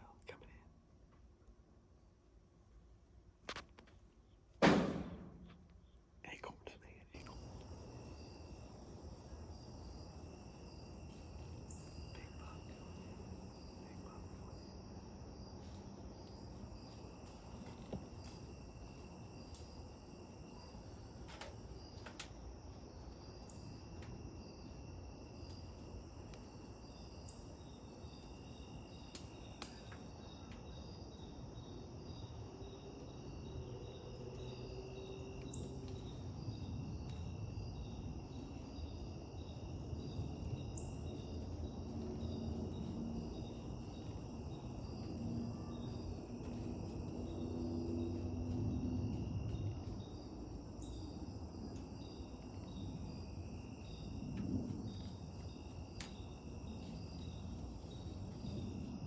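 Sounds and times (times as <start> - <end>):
insects chirping: 3.5 - 59.0.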